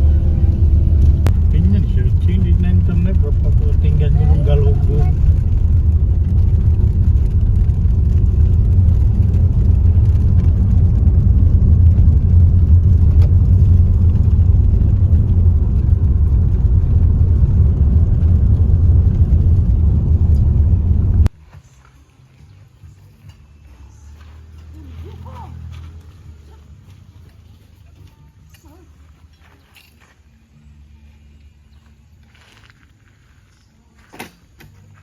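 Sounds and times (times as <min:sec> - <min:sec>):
motor vehicle rumbling: 0:00.0 - 0:28.1.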